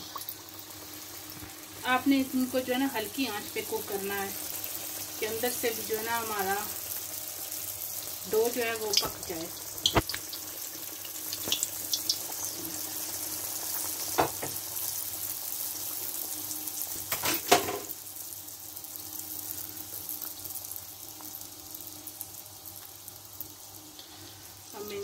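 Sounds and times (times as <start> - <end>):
donuts sizzling in hot oil: 0.0 - 25.0.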